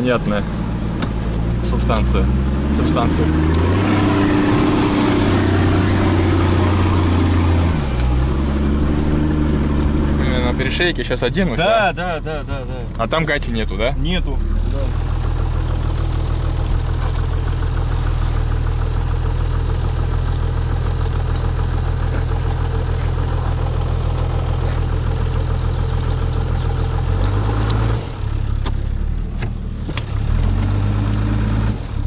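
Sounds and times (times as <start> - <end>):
car engine running at low revs: 0.0 - 32.0.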